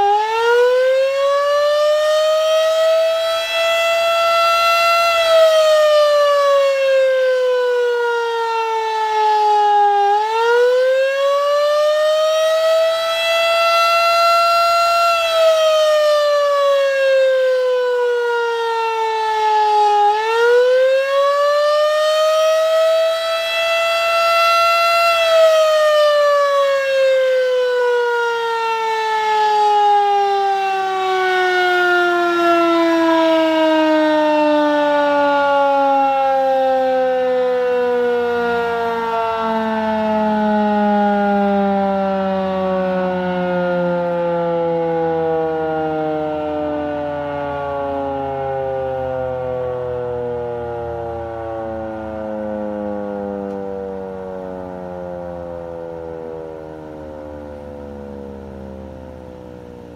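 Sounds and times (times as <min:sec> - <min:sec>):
warning siren wailing: 0:00.0 - 0:59.9.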